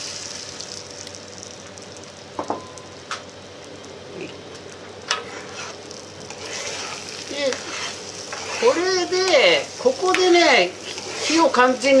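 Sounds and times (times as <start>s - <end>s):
eggs sizzling in a frying pan: 0.0s - 12.0s.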